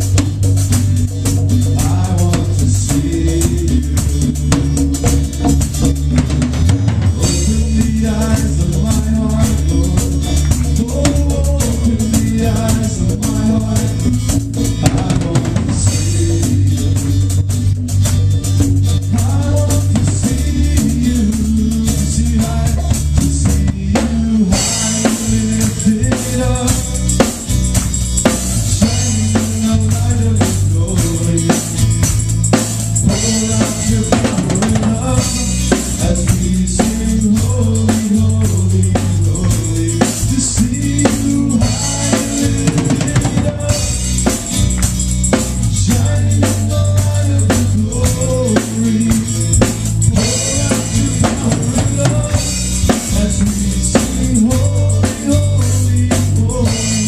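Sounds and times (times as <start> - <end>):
live band playing: 0.0 - 57.0.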